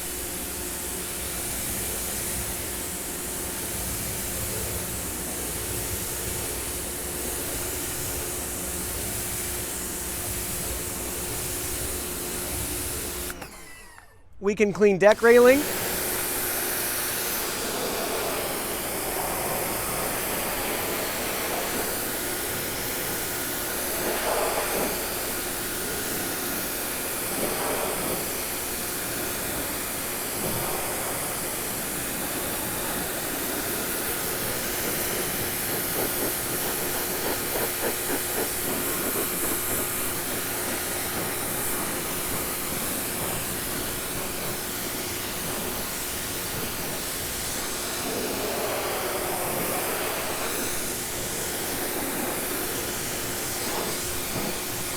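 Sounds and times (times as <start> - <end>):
pressure washer spraying water: 0.0 - 13.6, 15.0 - 54.9.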